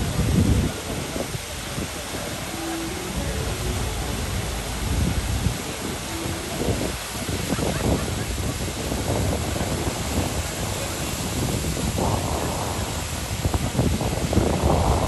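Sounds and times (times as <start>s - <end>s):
indistinct crowd voices: 0.0s - 13.1s
rushing wash of noise: 0.0s - 15.0s.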